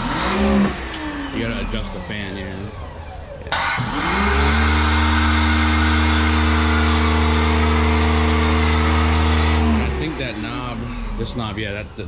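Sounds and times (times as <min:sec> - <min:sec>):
pressure washer motor humming: 0:00.0 - 0:02.8, 0:03.4 - 0:12.0.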